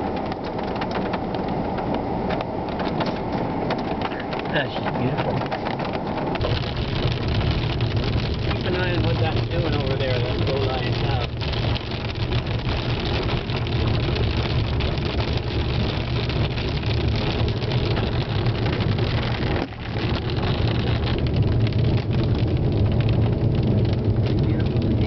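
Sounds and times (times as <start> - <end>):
deep storm rumble: 0.0 - 25.0
rain on car glass: 0.0 - 25.0
wind: 0.0 - 25.0.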